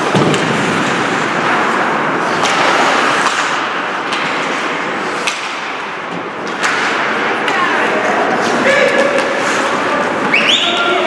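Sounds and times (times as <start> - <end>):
arena noise: 0.0 - 11.0
hockey sticks and puck clacking: 0.0 - 11.0
skates scraping on ice: 0.0 - 11.0.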